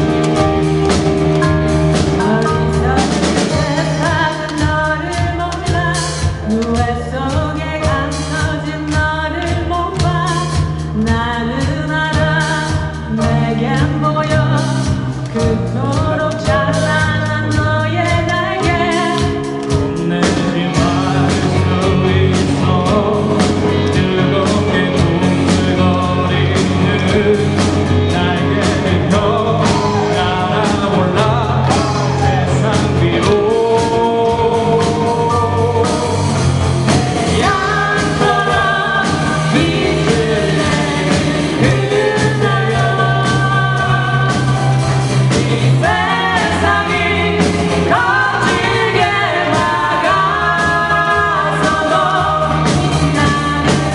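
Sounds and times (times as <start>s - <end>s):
bass guitar: 0.0s - 53.9s
guitar band backing: 0.0s - 53.9s
person singing: 0.0s - 53.9s
steady drum beat: 0.0s - 53.9s.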